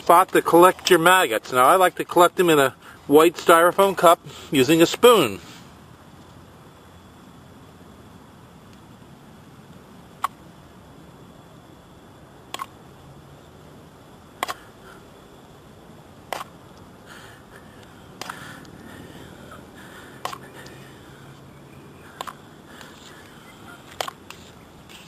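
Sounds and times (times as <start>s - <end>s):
low outdoor hiss: 0.0s - 25.0s.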